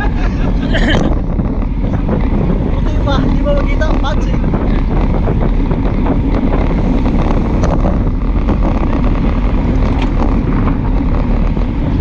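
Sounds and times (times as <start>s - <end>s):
road noise: 0.0s - 12.0s
wind rumble on microphone: 0.0s - 12.0s.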